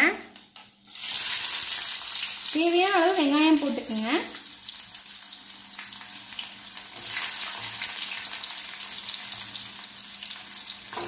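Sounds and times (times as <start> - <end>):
onions sizzling in hot oil: 0.3 - 11.0.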